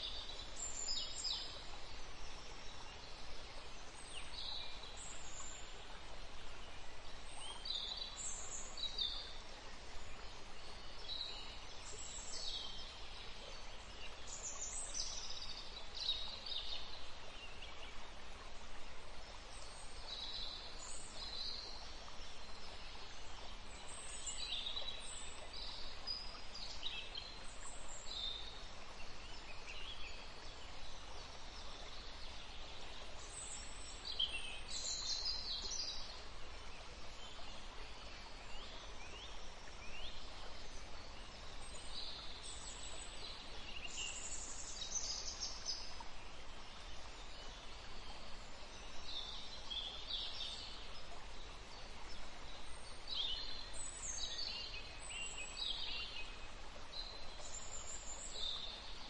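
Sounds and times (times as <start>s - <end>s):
soft background hiss: 0.0s - 59.0s.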